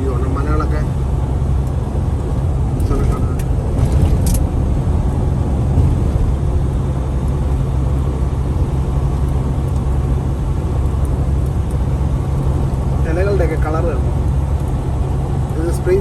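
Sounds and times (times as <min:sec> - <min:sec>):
road and tyre noise: 0:00.0 - 0:16.0
truck engine drone: 0:00.0 - 0:16.0.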